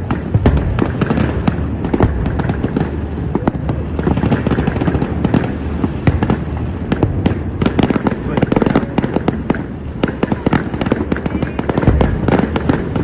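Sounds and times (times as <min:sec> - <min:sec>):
fireworks popping and crackling: 0:00.0 - 0:13.0
low rumble of fireworks: 0:00.0 - 0:13.0.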